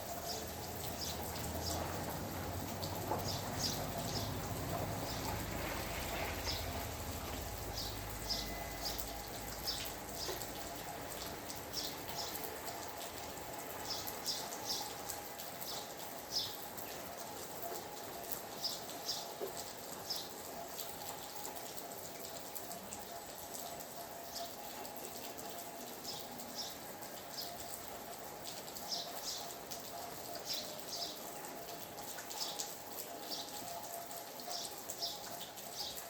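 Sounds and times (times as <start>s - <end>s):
steady rainfall: 0.0s - 36.0s.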